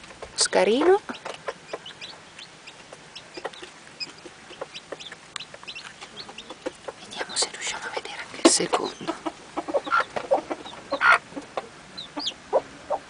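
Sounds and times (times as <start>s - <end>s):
chicks peeping: 0.0s - 13.0s
hen clucking softly: 0.8s - 7.2s, 8.4s - 13.0s.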